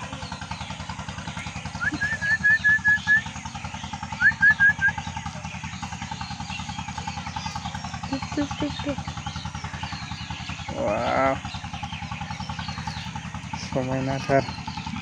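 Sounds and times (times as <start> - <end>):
idling engine throb: 0.0 - 15.0
bird calling high notes: 1.5 - 15.0.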